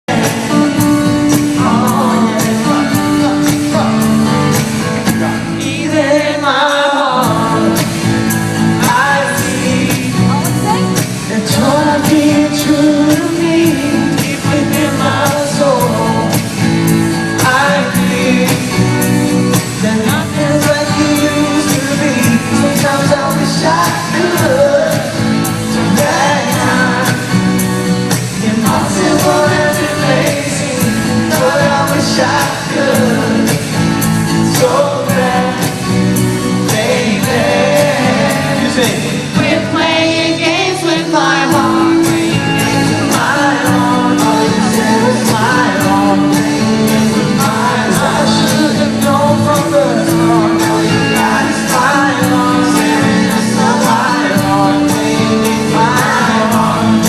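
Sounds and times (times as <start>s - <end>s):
backing music with steady beat: 0.0s - 57.0s
male vocal group singing pop: 0.0s - 57.0s.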